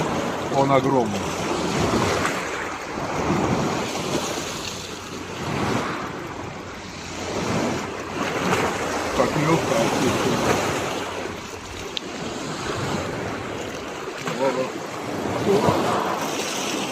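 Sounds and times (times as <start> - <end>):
surf washing in: 0.0 - 16.9
wind buffeting microphone: 0.0 - 16.9.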